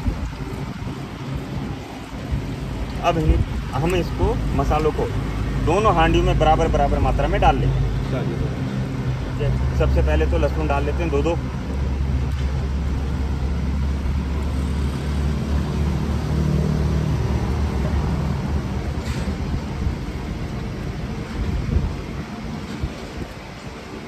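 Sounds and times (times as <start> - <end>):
low rumble of road traffic: 0.0 - 24.0
vehicle engine hum: 0.0 - 24.0.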